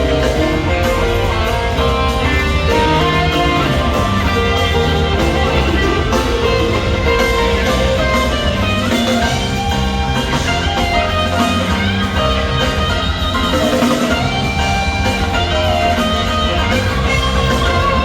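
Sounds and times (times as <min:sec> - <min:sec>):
electric guitar: 0:00.0 - 0:18.0
live rock band playing: 0:00.0 - 0:18.0.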